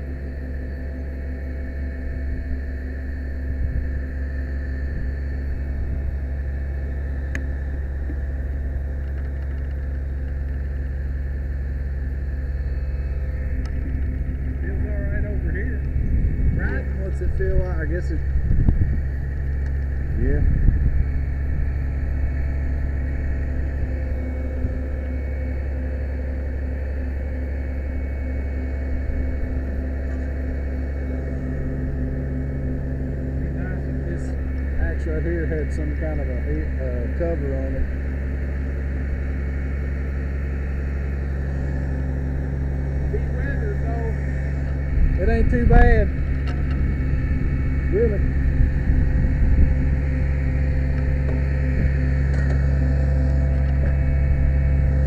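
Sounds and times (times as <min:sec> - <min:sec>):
faint high whine: 0:00.0 - 0:55.0
low mechanical hum: 0:00.0 - 0:55.0.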